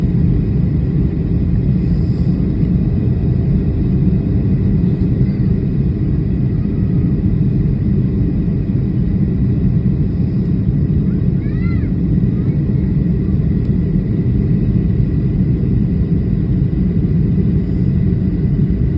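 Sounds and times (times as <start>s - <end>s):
airliner cabin rumble: 0.0s - 18.9s.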